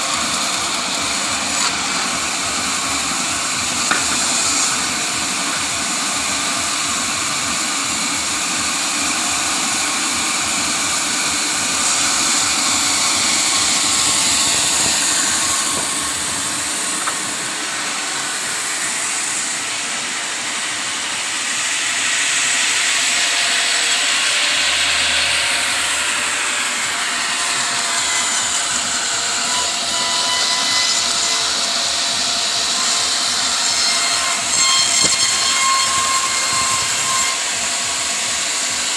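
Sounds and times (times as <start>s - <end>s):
sawmill saw cutting timber: 0.0s - 38.9s.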